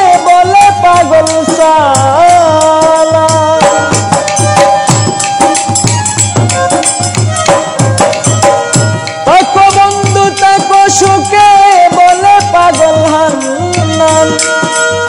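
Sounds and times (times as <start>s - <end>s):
hand drum beat: 0.0s - 15.0s
harmonium playing held notes: 0.0s - 15.0s.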